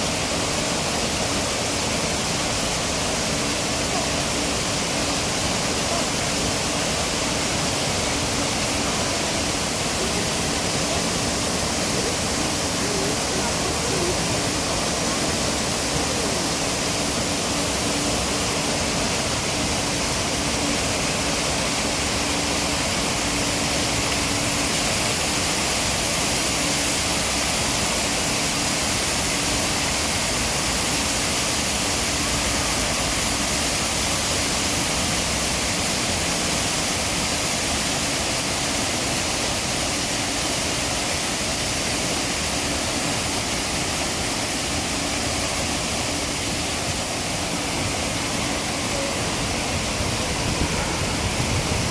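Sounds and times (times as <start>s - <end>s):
water rushing down waterfall: 0.0s - 51.9s.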